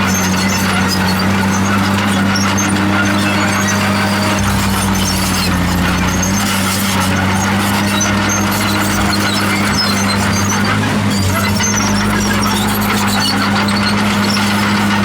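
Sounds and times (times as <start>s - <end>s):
diesel engine running: 0.0s - 15.0s
steel tracks squeaking: 0.0s - 15.0s.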